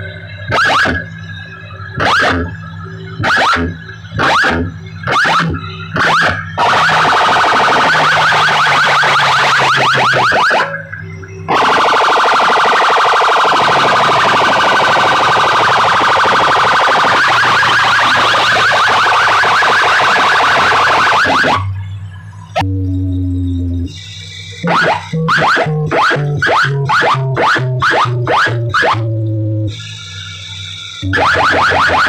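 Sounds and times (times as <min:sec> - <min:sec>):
distorted electronic siren tone: 0:00.0 - 0:32.0.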